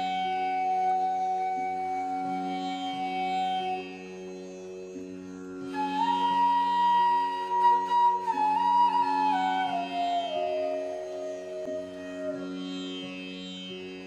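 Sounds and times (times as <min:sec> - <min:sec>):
flute melody: 0:00.0 - 0:04.5, 0:05.6 - 0:13.4.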